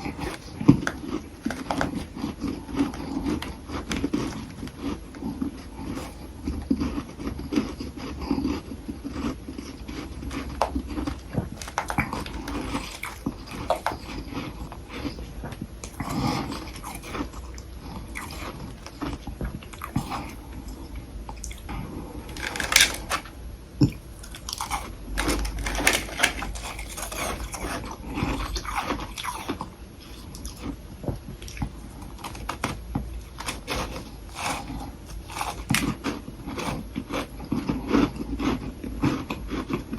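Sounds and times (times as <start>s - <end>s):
crunching frost between teeth: 0.0s - 30.8s, 31.4s - 39.9s.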